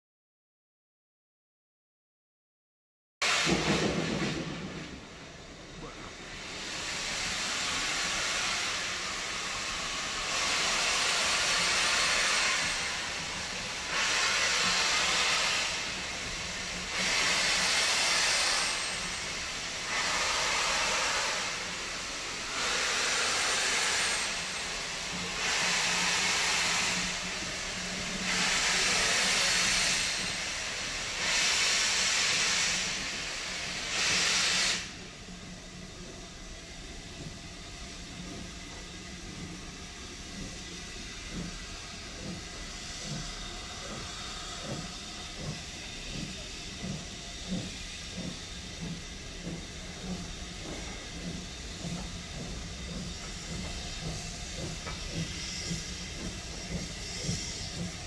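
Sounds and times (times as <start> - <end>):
steam locomotive hissing: 3.2 - 58.0.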